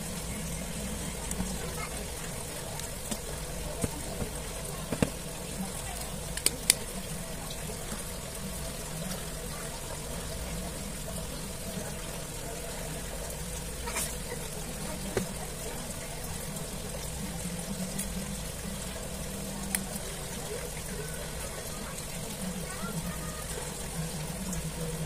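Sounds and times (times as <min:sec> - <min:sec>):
steady hum and hiss: 0:00.0 - 0:25.0.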